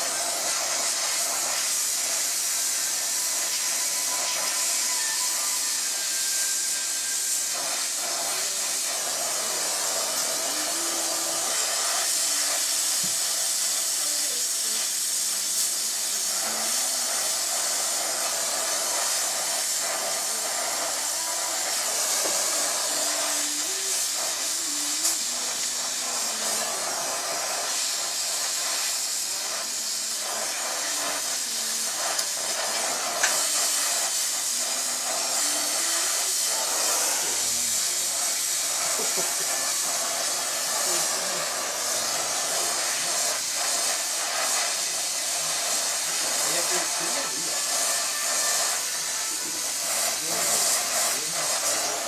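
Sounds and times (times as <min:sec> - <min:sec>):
gas torch flame hissing: 0:00.0 - 0:52.0.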